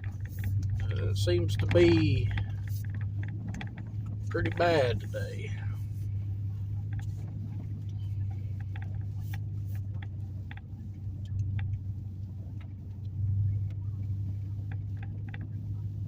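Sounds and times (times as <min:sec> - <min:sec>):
light clicks and rattles: 0:00.0 - 0:16.0
truck engine and tyres droning: 0:00.0 - 0:16.0.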